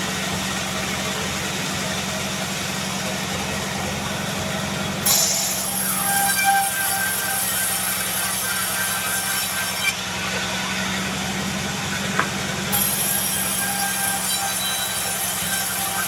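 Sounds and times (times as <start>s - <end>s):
band saw cutting log: 0.0s - 16.0s.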